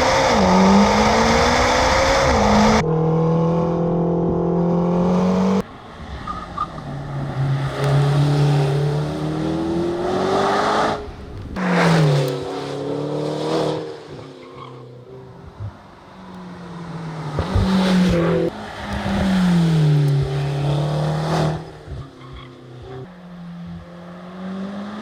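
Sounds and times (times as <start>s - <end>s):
sports car engine revving: 0.0s - 25.0s.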